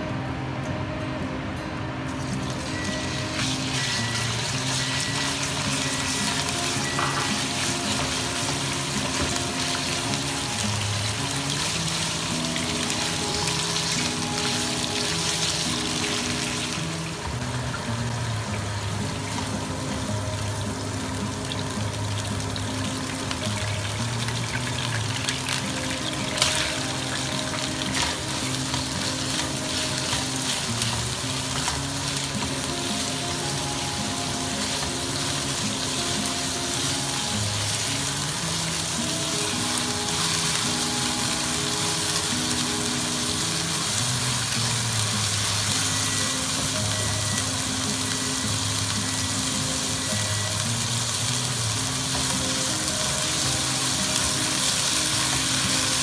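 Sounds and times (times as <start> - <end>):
pork sizzling in hot oil: 2.1 - 56.0.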